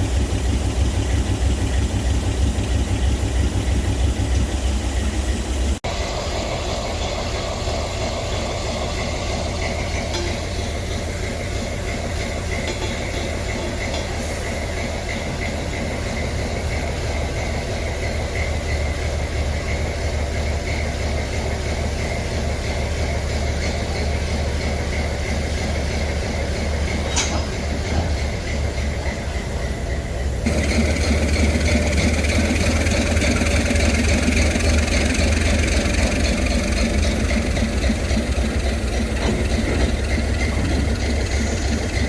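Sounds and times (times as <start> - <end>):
locomotive engine rumbling: 0.0 - 42.0.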